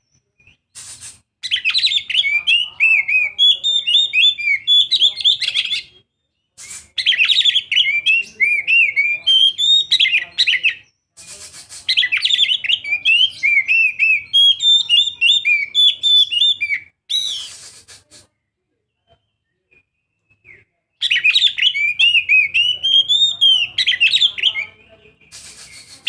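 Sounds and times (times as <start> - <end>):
bird singing whistled notes: 0.0 - 26.0.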